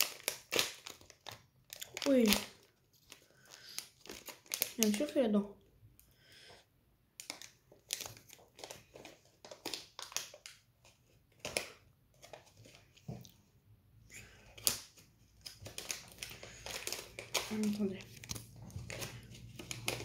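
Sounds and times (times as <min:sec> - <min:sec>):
plastic packet crinkling: 0:00.0 - 0:05.4, 0:07.2 - 0:12.9, 0:14.6 - 0:20.0.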